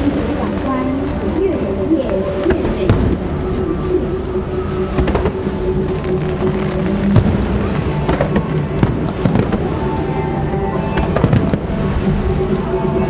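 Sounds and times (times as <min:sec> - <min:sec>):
fireworks bursting and crackling: 0:00.0 - 0:13.0
music with held notes: 0:00.0 - 0:13.0.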